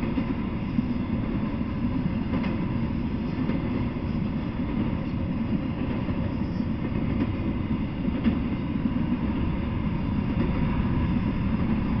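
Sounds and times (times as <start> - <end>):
freight train wheels rumbling on rails: 0.0 - 12.0.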